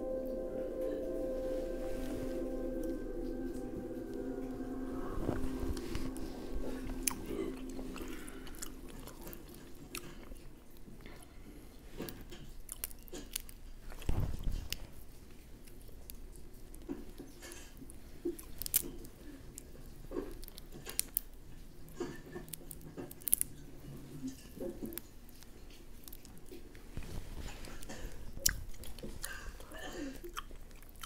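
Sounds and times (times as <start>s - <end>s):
chewing: 6.0s - 31.0s.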